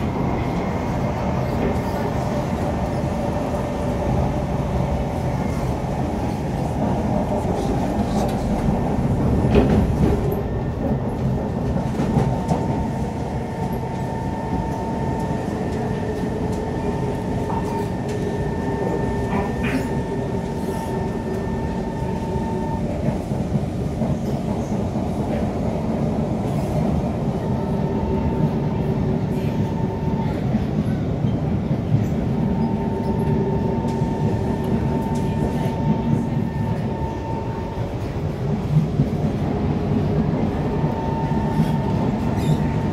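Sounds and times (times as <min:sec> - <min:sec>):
train running low rumble: 0:00.0 - 0:42.9.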